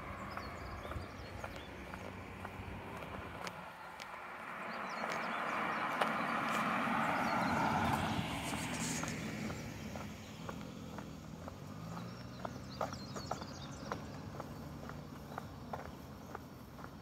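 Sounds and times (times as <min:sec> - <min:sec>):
faint footsteps on pavement: 0:00.0 - 0:17.0
vehicle passing: 0:00.0 - 0:17.0.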